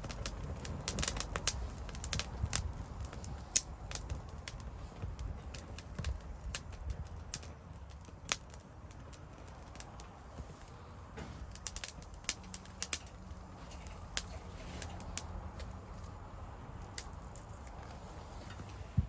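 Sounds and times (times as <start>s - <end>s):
low steady rumble: 0.0s - 19.0s
wood fire crackling and popping: 0.0s - 19.0s.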